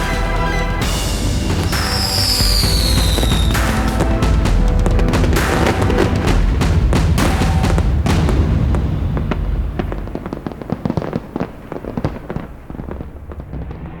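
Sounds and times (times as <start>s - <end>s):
sharp crackling pops: 1.5s - 14.0s.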